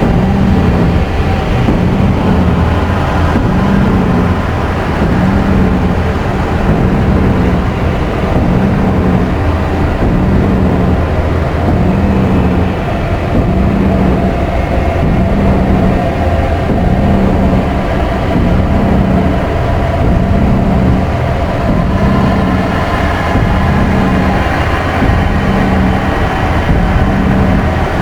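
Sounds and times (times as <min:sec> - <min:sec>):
pulsing low tone: 0:00.0 - 0:28.0
rumbling synthesizer noise drone: 0:00.0 - 0:28.0.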